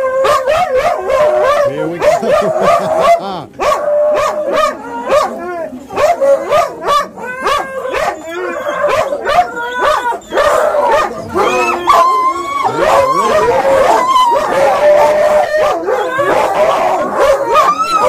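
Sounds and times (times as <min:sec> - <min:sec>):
long held dog howl: 0:00.0 - 0:18.0
sled dogs barking and howling: 0:00.0 - 0:18.0.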